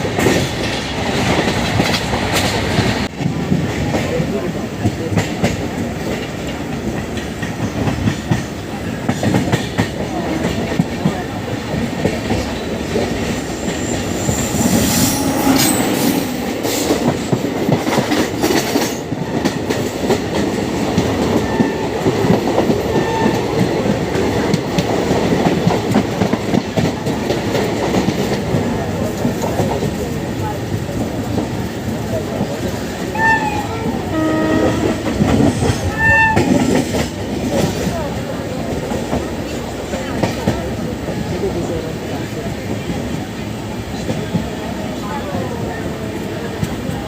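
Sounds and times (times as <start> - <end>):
train wheels clattering on track: 0.0 - 47.0.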